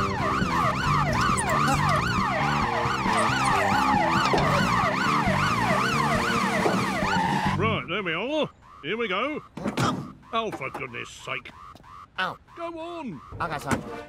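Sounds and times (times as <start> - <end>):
electronic alarm siren warbling: 0.0 - 14.0.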